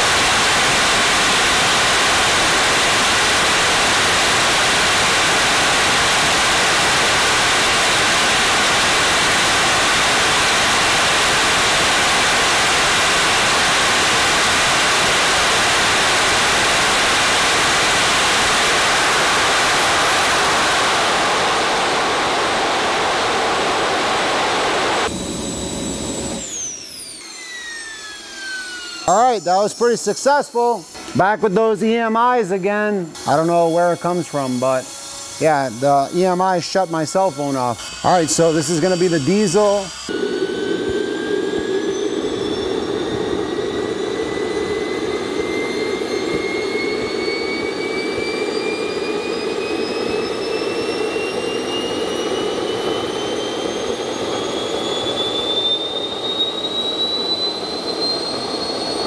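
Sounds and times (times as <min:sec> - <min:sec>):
jet engine rushing: 0:00.0 - 0:59.0
turbine whine gliding down: 0:00.0 - 0:59.0.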